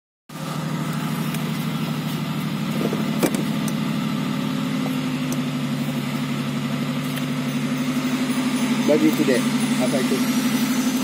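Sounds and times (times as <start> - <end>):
car engine idling: 0.3 - 11.0.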